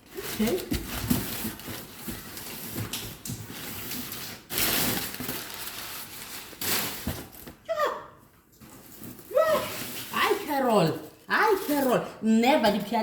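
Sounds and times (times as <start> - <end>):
packaging crinkling and rustling: 0.0 - 7.6, 8.6 - 13.0.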